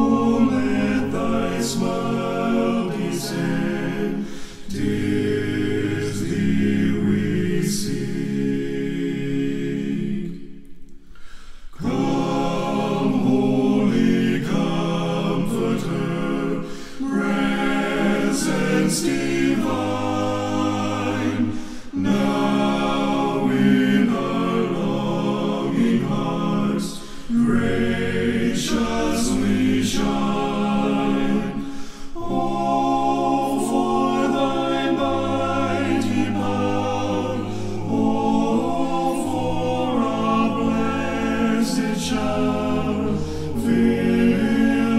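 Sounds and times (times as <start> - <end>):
male vocal group singing a cappella: 0.0 - 10.6, 11.4 - 44.9.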